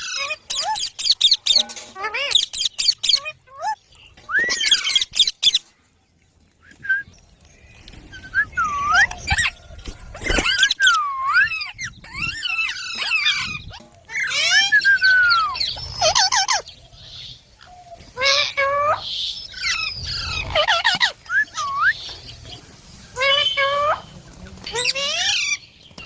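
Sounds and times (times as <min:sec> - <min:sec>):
parrots chirping and squawking: 0:00.0 - 0:05.7, 0:07.7 - 0:26.0.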